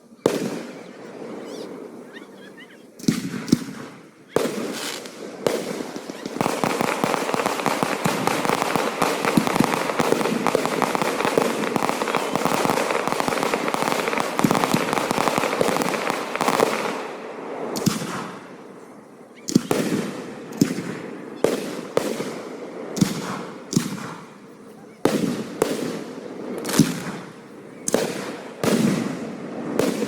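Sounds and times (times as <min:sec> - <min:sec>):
fireworks crackling and popping: 0:00.0 - 0:02.2, 0:02.9 - 0:30.0
firework bangs: 0:00.2 - 0:02.2, 0:03.0 - 0:30.0.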